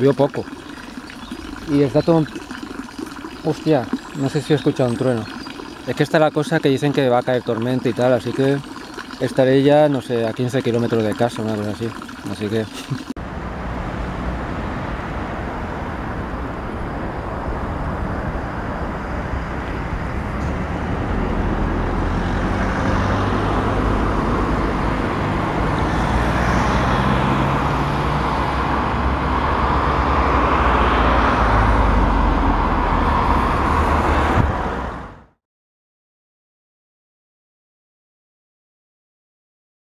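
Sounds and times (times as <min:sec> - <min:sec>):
road traffic with cars passing: 0:00.0 - 0:35.4.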